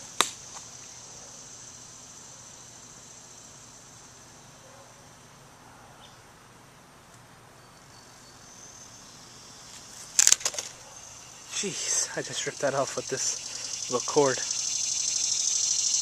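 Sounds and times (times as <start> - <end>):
insects chirring: 0.0 - 6.2, 7.6 - 16.0.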